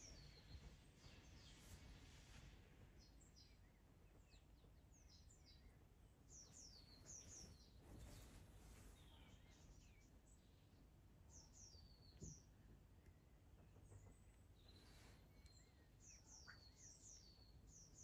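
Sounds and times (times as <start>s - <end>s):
faint songbirds chirping: 0.0s - 18.0s.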